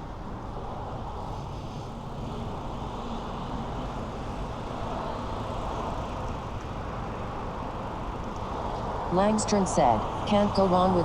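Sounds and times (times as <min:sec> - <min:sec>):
low engine hum: 0:00.0 - 0:11.0
road traffic noise: 0:00.0 - 0:11.0.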